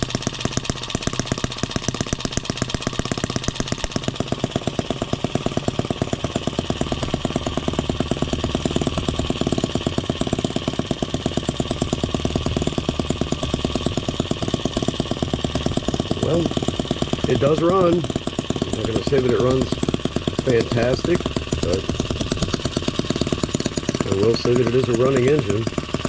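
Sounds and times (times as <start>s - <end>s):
model gas engine popping: 0.0s - 26.0s.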